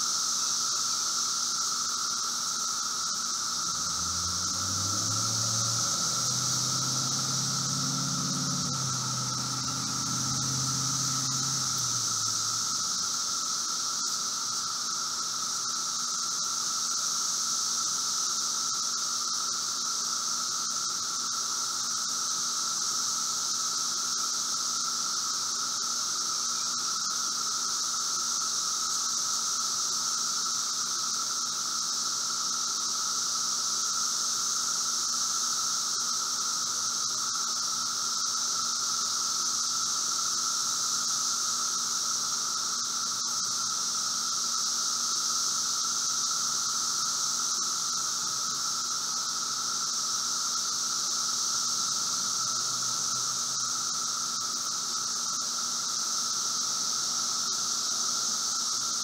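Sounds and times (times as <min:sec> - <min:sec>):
cicadas chorus: 0:00.0 - 0:59.0.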